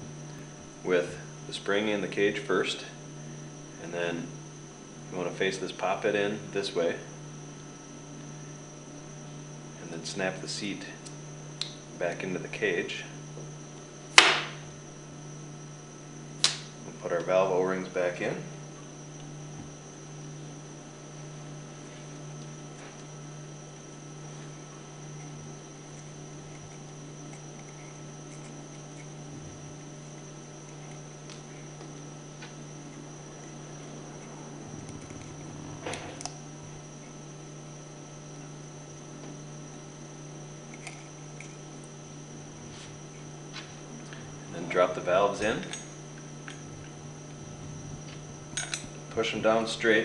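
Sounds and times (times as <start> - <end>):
low electrical hum with hiss: 0.0 - 50.0
thin high whine: 0.0 - 50.0.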